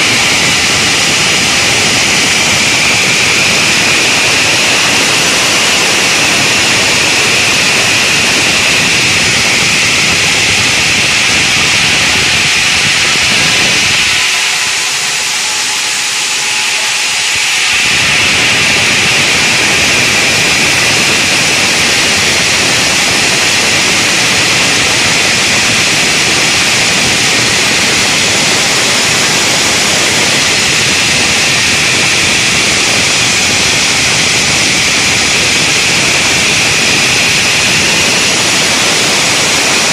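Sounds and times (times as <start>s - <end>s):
saw blades cutting stone: 0.0s - 39.9s.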